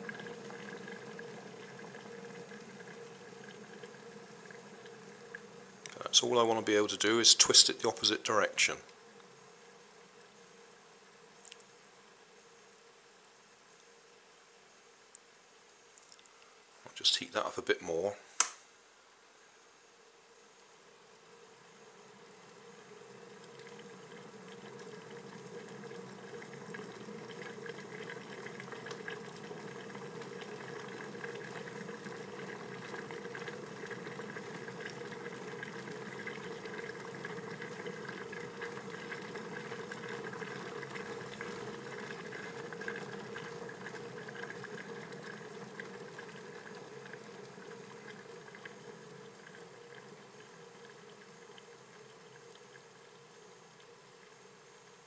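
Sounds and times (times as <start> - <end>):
kettle water boiling: 0.0 - 12.9, 20.8 - 55.0.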